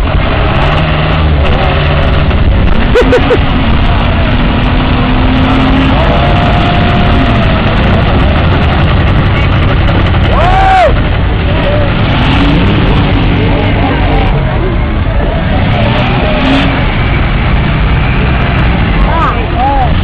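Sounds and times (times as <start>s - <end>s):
heavy engines rumbling: 0.0s - 20.0s.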